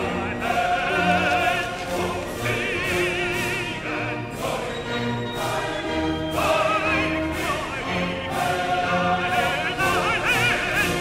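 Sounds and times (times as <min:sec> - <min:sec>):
operatic singing with vibrato: 0:00.0 - 0:11.0.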